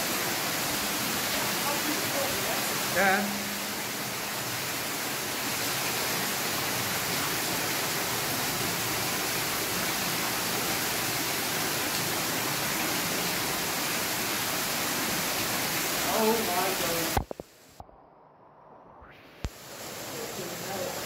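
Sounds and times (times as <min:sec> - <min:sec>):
water rushing over rocks: 0:00.0 - 0:17.8, 0:19.4 - 0:21.0.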